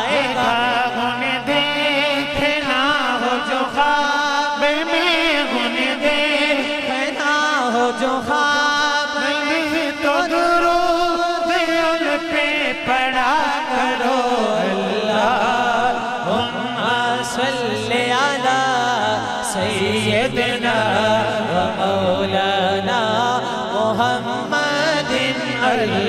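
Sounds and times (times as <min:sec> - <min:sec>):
man singing through a loudspeaker: 0:00.0 - 0:26.0.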